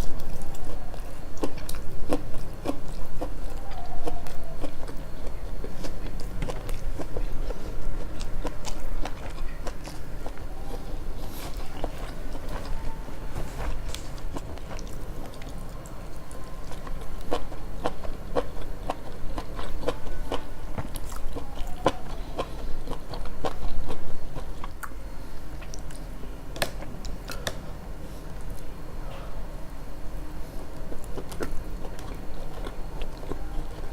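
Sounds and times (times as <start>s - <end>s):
chewing food: 0.0s - 27.6s, 30.6s - 33.9s.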